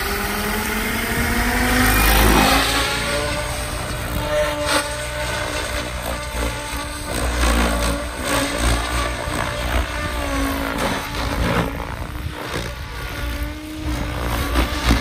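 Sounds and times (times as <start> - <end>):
rc helicopter motor whine: 0.0 - 15.0
rotor blades whooshing: 0.0 - 15.0.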